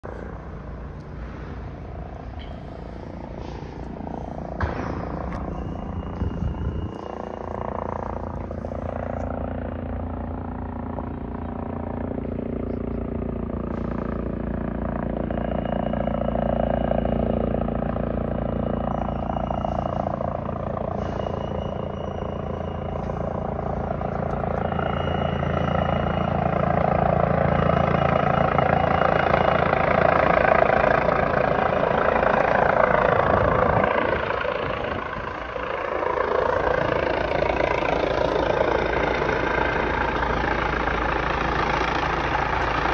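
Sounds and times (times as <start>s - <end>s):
helicopter rotor and turbine: 0.0s - 42.9s
steady low hum: 0.0s - 42.9s.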